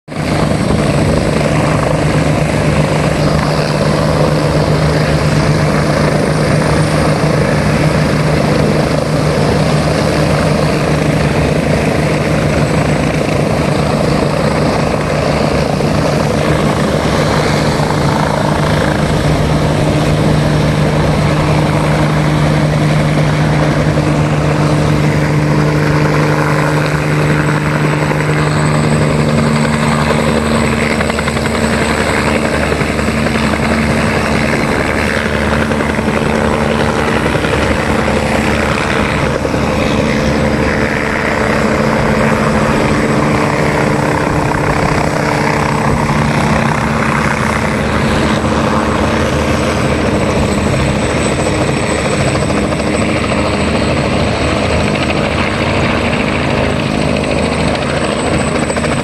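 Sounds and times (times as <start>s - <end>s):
helicopters flying low: 0.1s - 59.0s.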